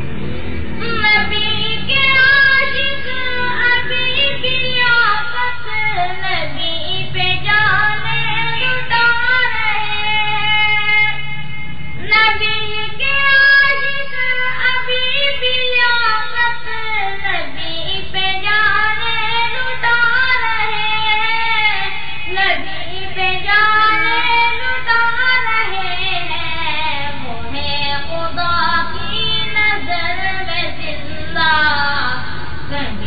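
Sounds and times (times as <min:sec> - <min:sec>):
high voice singing: 0:00.8 - 0:11.4, 0:12.0 - 0:33.0.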